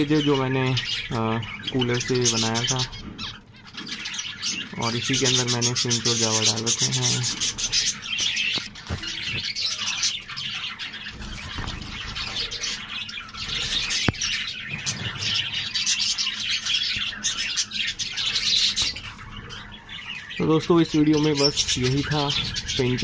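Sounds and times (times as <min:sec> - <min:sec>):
flock of small birds chirping: 0:00.0 - 0:23.0.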